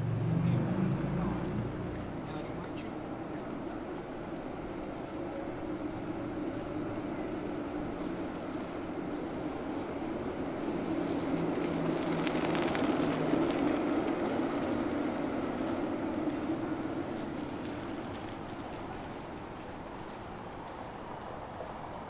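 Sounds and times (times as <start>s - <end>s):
bicycle passing: 0.0s - 22.0s
city street hum: 0.0s - 22.0s.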